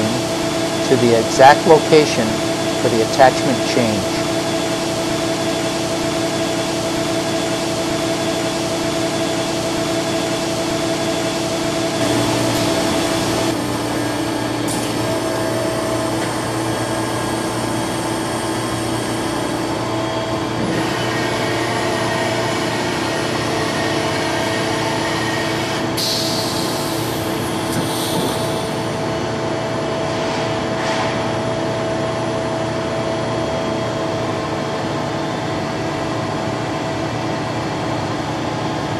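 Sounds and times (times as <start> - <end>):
machine hum with held tones: 0.0 - 38.9.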